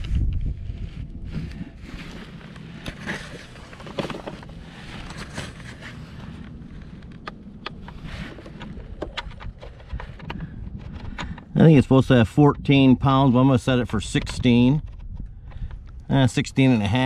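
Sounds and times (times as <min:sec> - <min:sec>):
low background hum: 0:00.5 - 0:17.0.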